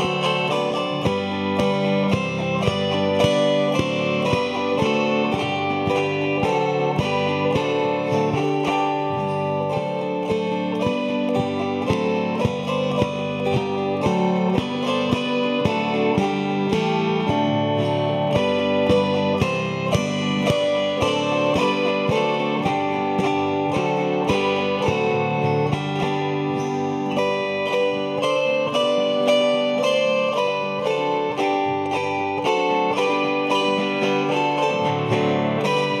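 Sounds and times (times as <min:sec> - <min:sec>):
zithers strumming chords: 0:00.0 - 0:36.0.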